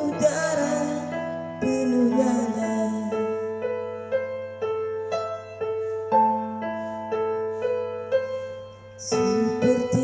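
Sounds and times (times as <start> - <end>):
piano-toned keyboard broken chords: 0.0 - 10.0.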